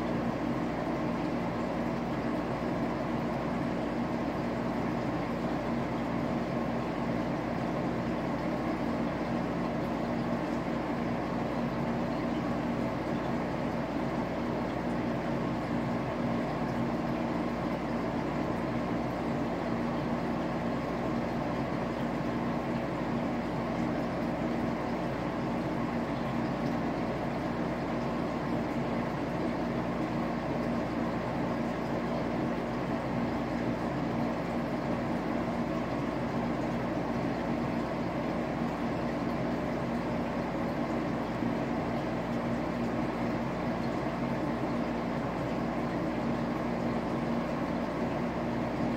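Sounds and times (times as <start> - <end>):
aquarium pump humming: 0.0 - 48.9.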